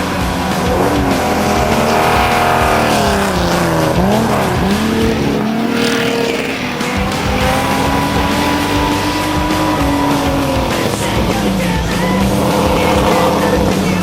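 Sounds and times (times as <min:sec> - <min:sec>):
race car engines running hard: 0:00.0 - 0:14.0.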